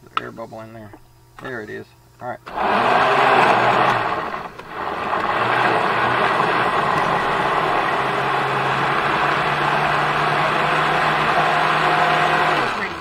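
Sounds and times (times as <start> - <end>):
blender motor running: 2.5 - 13.0.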